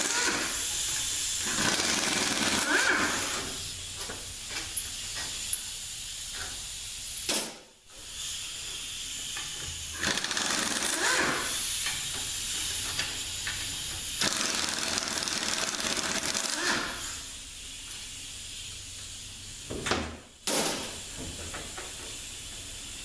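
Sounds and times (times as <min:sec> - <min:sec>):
air ratchet hissing: 0:00.0 - 0:19.7, 0:20.8 - 0:23.0.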